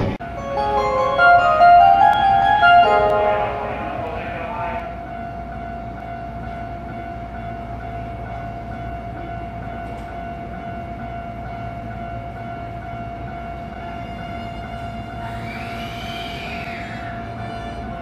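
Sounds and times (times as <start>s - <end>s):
electric train whine and hum: 0.0s - 18.0s.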